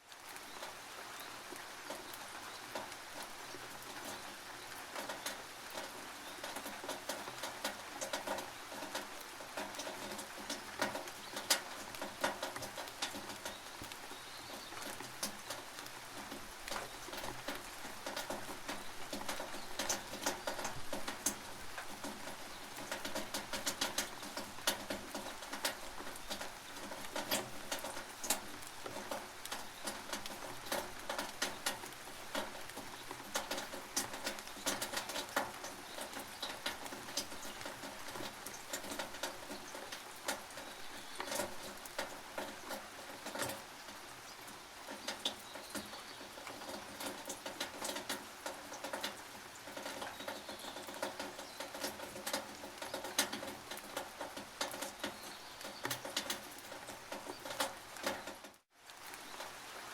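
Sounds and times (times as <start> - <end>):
rain hissing on tin roof: 0.0 - 59.9.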